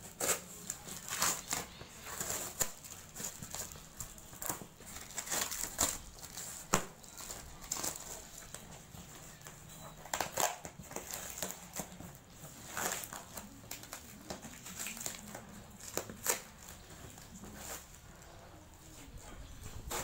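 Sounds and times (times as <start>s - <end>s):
packing tape ripping off cardboard: 0.0s - 8.8s, 9.4s - 18.0s.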